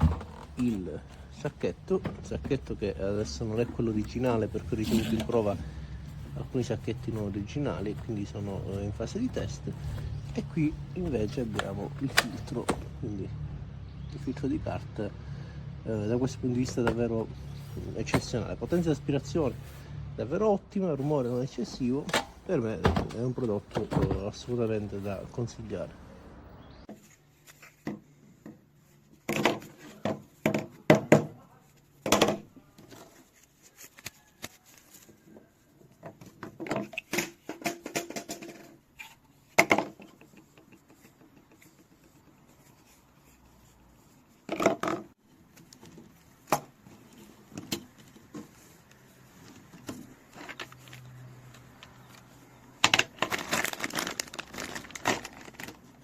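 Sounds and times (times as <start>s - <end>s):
objects being handled: 0.0s - 13.0s, 16.0s - 19.9s, 21.0s - 26.1s, 26.7s - 56.0s.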